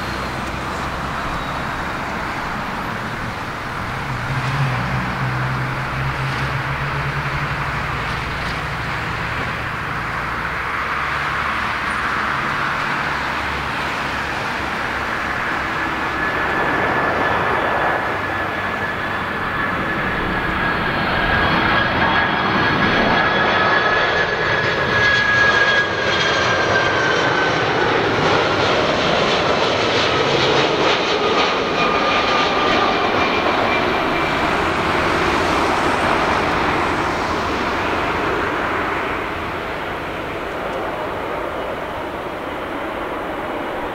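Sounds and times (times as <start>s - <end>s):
jet engine rush: 0.0s - 43.9s.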